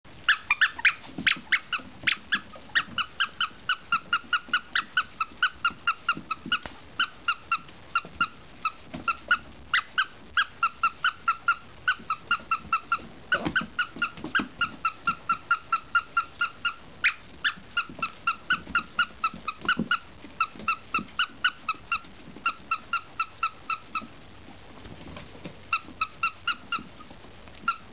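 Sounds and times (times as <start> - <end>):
toy squeaker squeaking: 0.3 - 24.0, 25.7 - 27.0.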